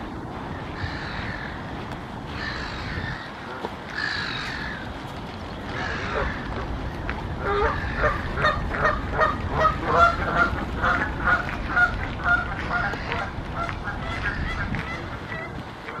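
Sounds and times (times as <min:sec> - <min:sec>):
geese honking: 0:00.5 - 0:05.0, 0:05.6 - 0:16.0.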